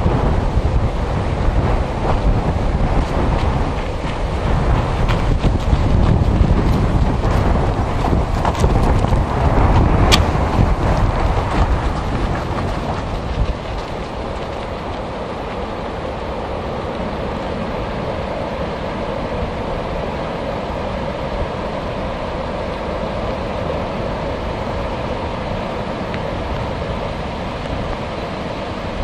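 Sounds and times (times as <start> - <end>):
strong wind blowing: 0.0 - 29.0
wind buffeting on microphone: 0.0 - 29.0.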